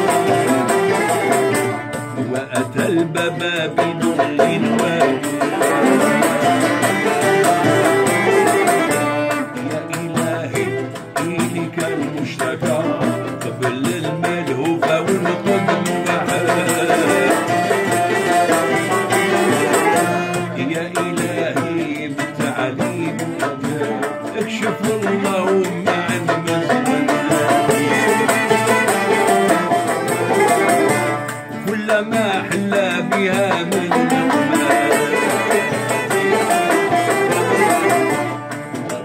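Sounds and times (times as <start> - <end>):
instrumental ensemble music: 0.0 - 39.0
jingled frame drum strikes: 0.0 - 39.0.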